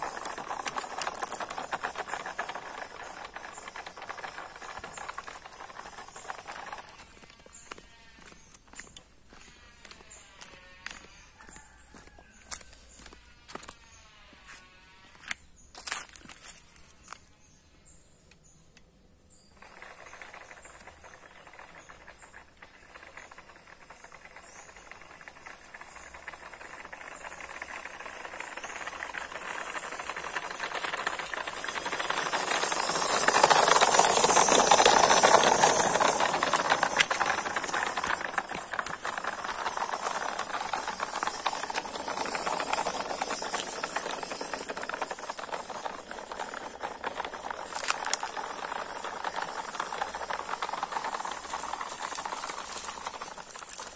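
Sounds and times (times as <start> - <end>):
tyres rattling on ridged concrete: 0.0 - 14.2, 18.5 - 53.9
model truck motor and gears: 0.0 - 53.9.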